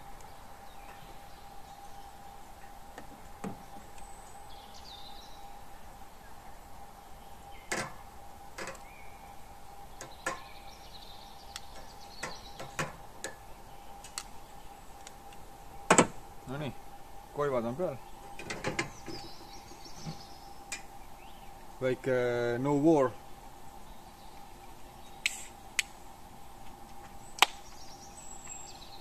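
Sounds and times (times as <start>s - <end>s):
birds chirping: 0.0s - 29.0s
faint steady hum: 0.0s - 29.0s.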